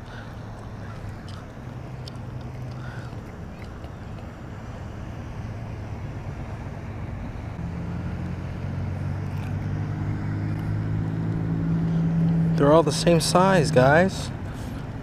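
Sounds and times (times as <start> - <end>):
low steady engine hum: 0.0 - 15.0.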